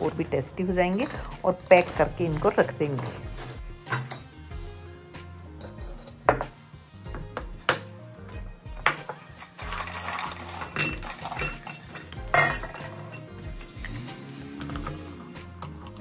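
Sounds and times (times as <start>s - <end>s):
dishes and utensils clinking: 0.0s - 4.4s, 5.5s - 14.0s.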